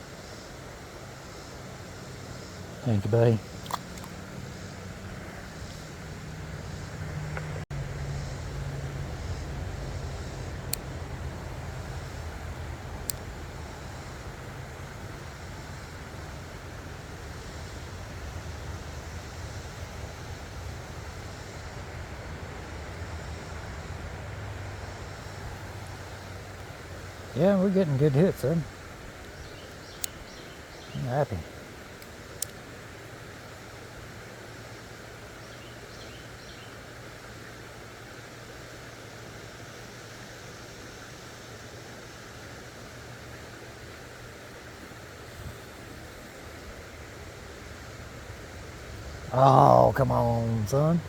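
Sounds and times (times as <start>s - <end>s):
creek water running: 0.0s - 51.0s.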